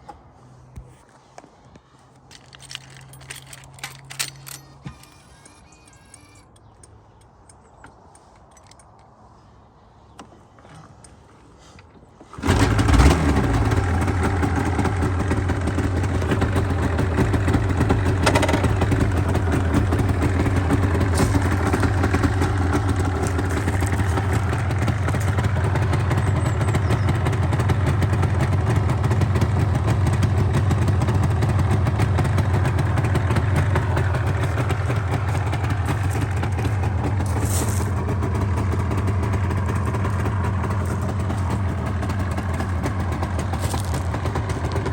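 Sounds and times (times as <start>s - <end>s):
motorcycle engine starting and idling: 2.3s - 9.0s, 10.1s - 44.9s.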